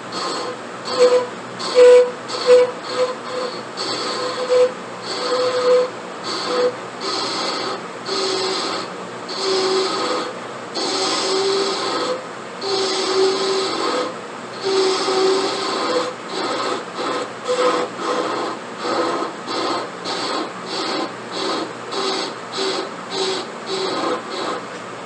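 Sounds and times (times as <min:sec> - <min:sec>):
rasp filing wood: 0:00.0 - 0:24.7.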